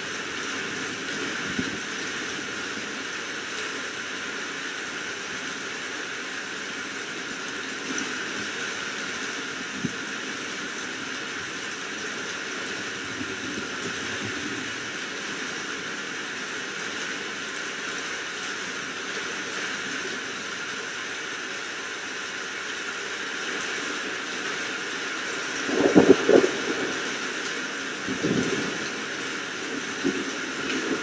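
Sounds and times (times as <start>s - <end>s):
heavy rain hissing: 0.0s - 31.0s.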